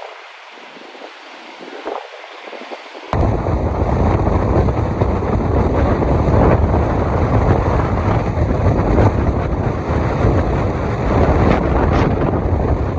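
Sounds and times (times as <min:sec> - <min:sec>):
strong wind on microphone: 0:00.0 - 0:12.9.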